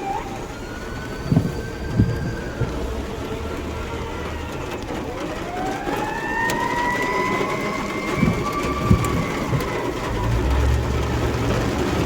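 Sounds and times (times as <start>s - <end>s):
steady rain: 0.0s - 12.0s
vehicle motor whine: 0.0s - 12.0s.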